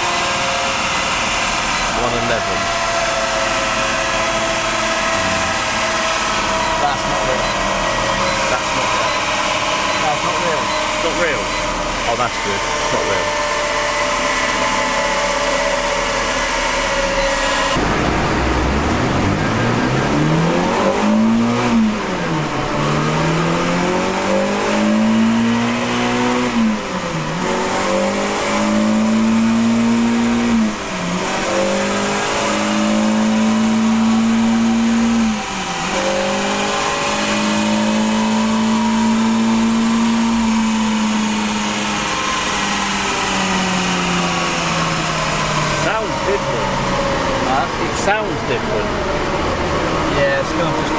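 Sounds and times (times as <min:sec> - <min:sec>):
car engine revving on dyno: 0:00.0 - 0:50.9.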